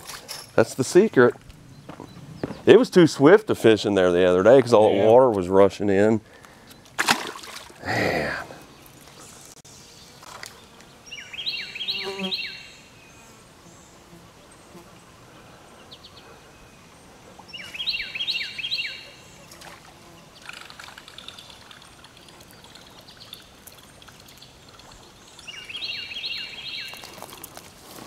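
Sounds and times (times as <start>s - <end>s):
songbird singing: 0.4s - 7.0s, 7.7s - 27.5s.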